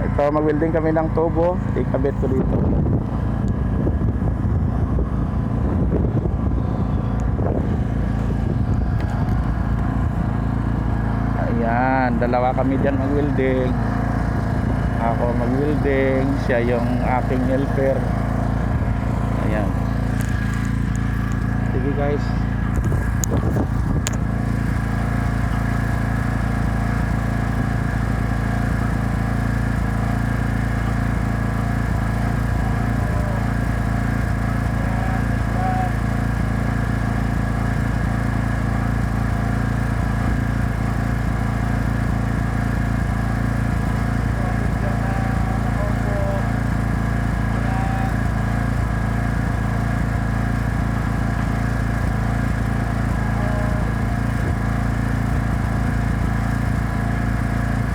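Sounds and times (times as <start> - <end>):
generator engine running: 0.0 - 57.9.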